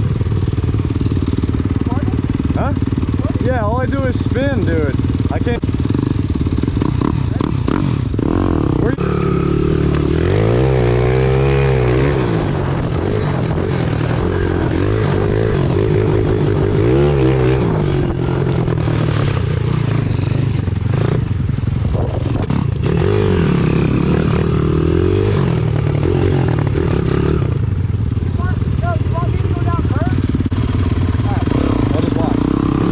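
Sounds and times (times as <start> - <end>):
pit bike engine revving: 0.0 - 32.9.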